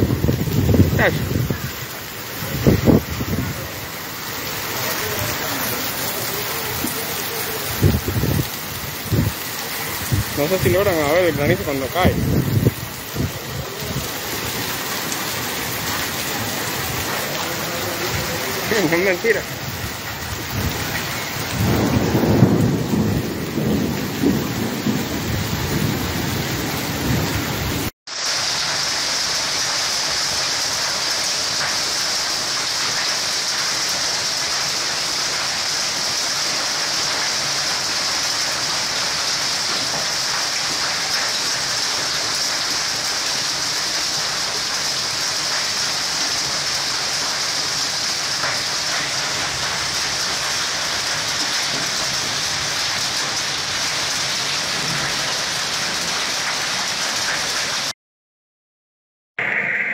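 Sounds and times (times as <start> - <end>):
heavy rain with hail pelting: 0.0 - 57.9.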